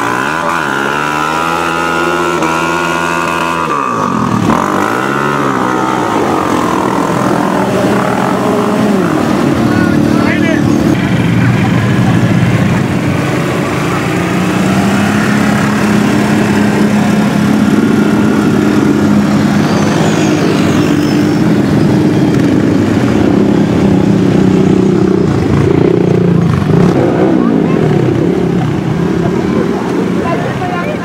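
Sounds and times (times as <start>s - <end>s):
quad engines running: 0.0s - 31.0s.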